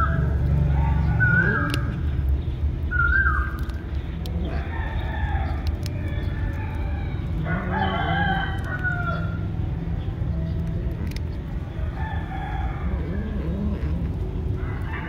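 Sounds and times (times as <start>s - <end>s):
birds calling: 0.0s - 15.0s
cat chewing and crunching bones: 0.0s - 15.0s.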